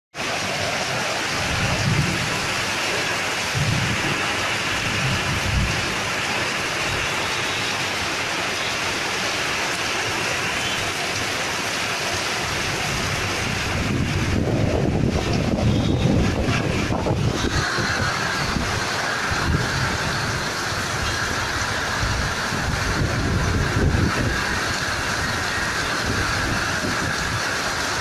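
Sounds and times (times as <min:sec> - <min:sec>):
heavy rain pouring: 0:00.1 - 0:28.0.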